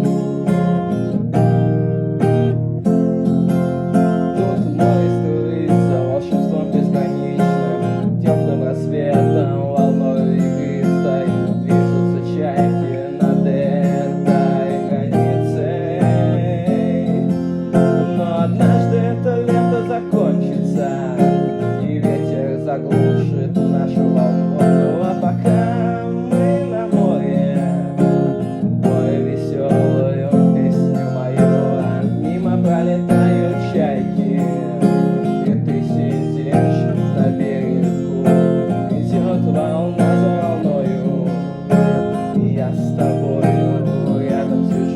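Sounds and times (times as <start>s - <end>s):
acoustic guitar music: 0.0s - 44.9s.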